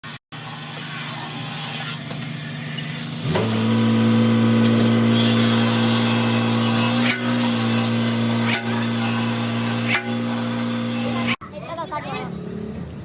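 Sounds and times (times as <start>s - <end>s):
machine motor starting and humming: 0.4s - 11.4s.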